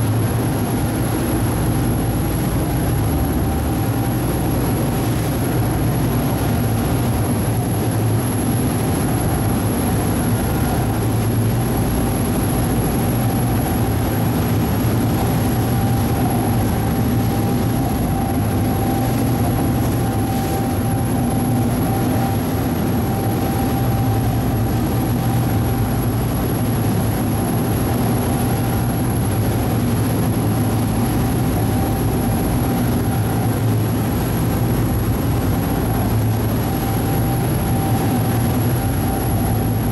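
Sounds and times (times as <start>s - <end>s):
ferry engine droning: 0.0s - 39.9s
thin steady whine: 0.0s - 39.9s.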